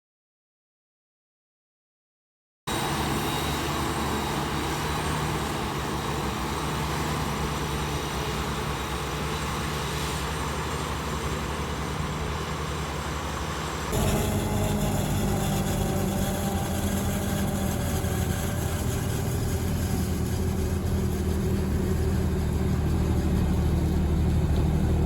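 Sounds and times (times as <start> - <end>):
heavy machinery engine running: 2.7 - 25.0.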